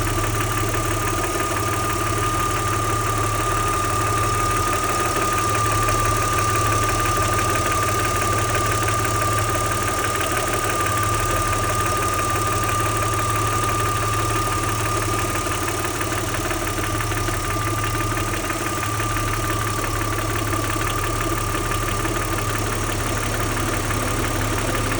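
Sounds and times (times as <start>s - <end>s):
car engine idling: 0.0s - 24.9s
steady high whine: 0.1s - 24.9s.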